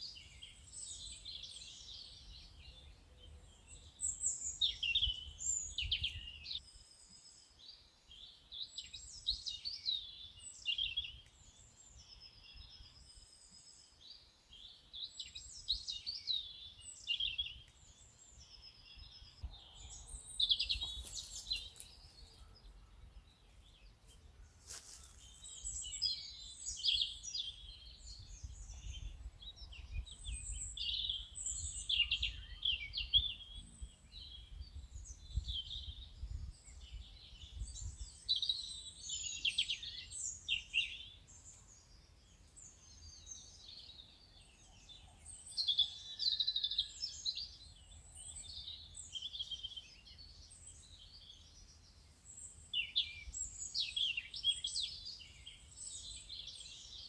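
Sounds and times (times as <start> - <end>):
birds chirping and singing: 0.0 - 24.0, 24.7 - 57.0.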